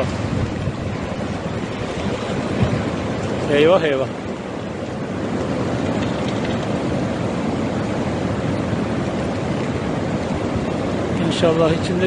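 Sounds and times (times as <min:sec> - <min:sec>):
flood river rushing: 0:00.0 - 0:12.0.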